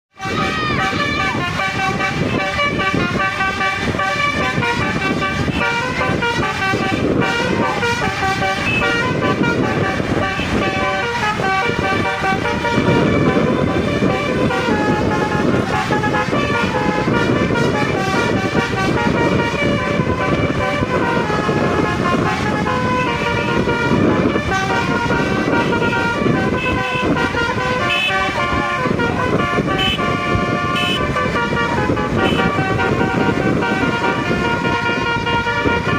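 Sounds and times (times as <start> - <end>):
bus engine rumble: 0.1 - 35.9
musical air horn: 0.1 - 35.9
road noise: 0.1 - 35.9.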